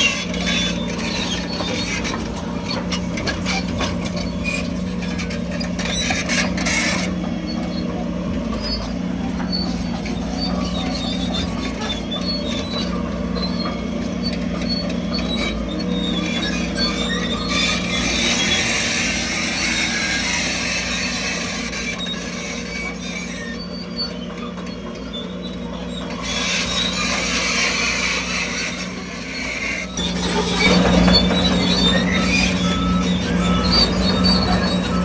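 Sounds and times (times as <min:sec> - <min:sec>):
diesel engine running: 0:00.0 - 0:35.0
steel tracks squealing: 0:00.0 - 0:35.0.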